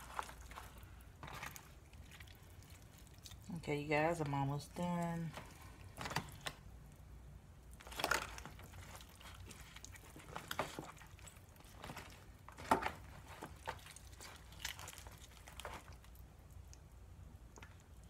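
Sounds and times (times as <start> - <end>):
meat being torn wetly: 0.0 - 3.6, 5.3 - 18.0
faint low hum: 0.0 - 18.0.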